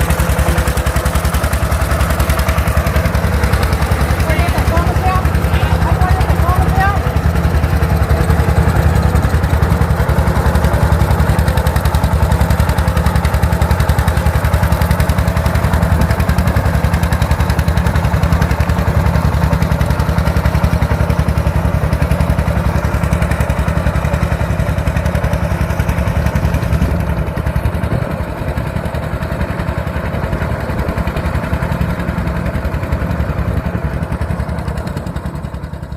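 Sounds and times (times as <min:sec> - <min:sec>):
heavy engine chugging: 0:00.0 - 0:35.9.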